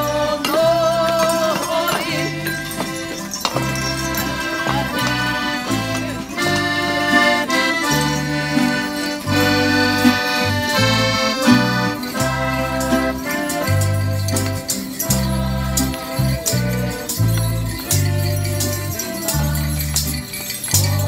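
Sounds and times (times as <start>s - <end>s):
accordion playing folk tune: 0.0s - 21.0s
acoustic guitars strumming: 0.0s - 21.0s.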